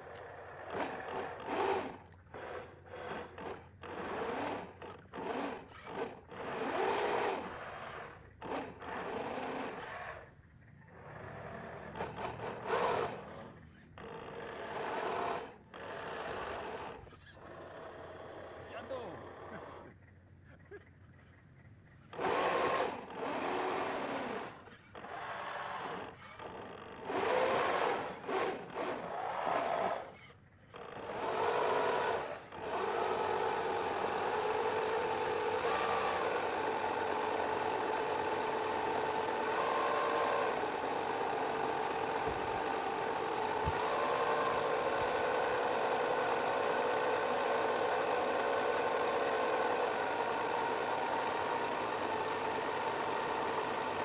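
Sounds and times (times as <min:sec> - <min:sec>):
electric motor whining: 0:00.0 - 0:10.3, 0:11.0 - 0:19.9, 0:22.1 - 0:54.0.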